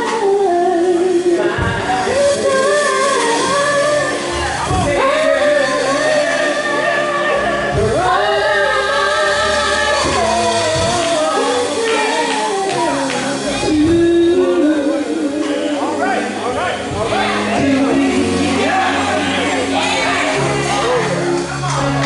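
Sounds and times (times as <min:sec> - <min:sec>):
instrumental backing with bass: 0:00.0 - 0:22.0
voices singing held notes: 0:00.0 - 0:22.0.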